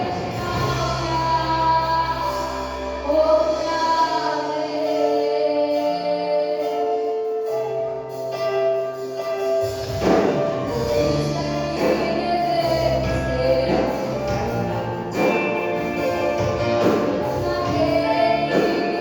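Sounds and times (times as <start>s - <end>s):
bass: 0.0s - 19.0s
drums: 0.0s - 19.0s
keyboard chords: 0.0s - 19.0s.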